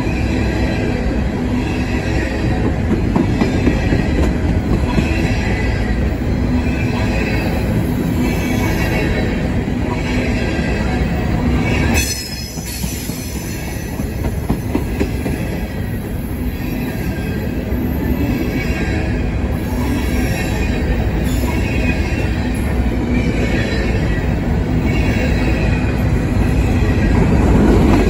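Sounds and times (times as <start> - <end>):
steel wheels rumbling on rails: 0.0 - 28.0.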